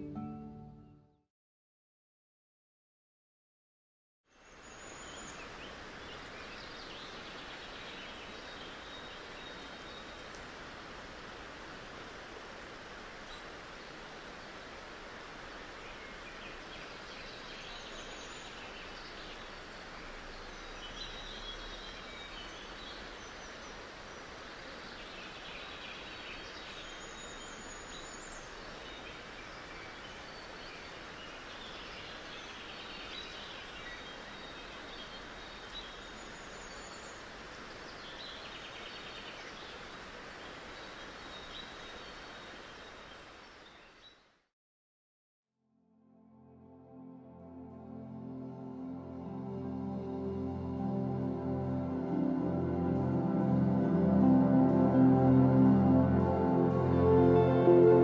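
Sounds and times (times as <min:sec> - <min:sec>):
steady outdoor hiss: 0:04.3 - 0:44.4, 0:47.0 - 0:58.0.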